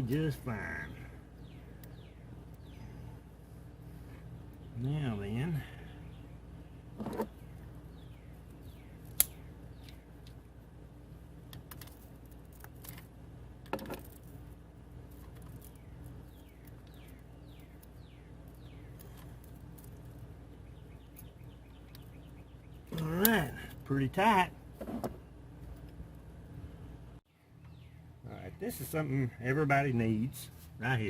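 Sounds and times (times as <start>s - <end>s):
birds chirping: 0.0s - 31.0s
steady low hum: 0.0s - 31.0s.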